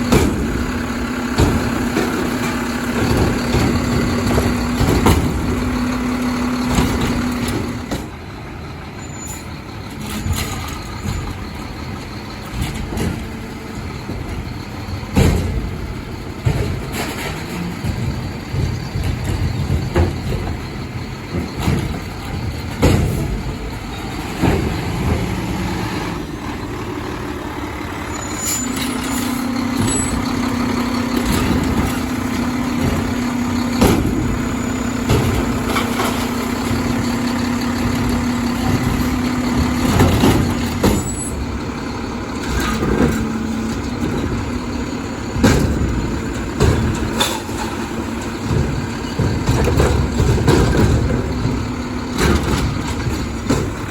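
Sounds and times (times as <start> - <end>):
clanks and bangs: 0.0 - 8.2, 9.4 - 53.9
diesel engine running: 0.0 - 53.9.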